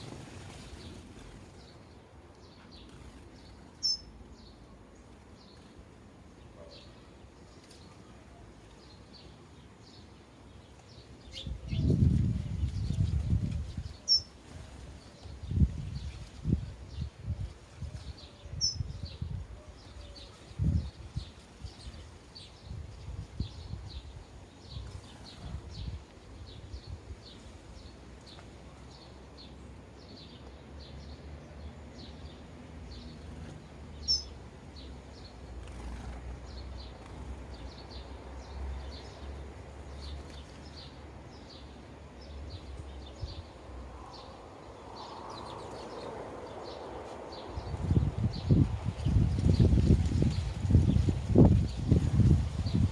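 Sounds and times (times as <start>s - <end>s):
sparrows chirping: 0.0s - 52.9s.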